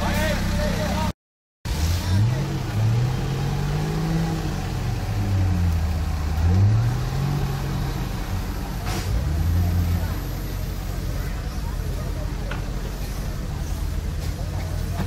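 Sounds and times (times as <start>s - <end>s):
engine revving in mud: 1.7s - 15.0s.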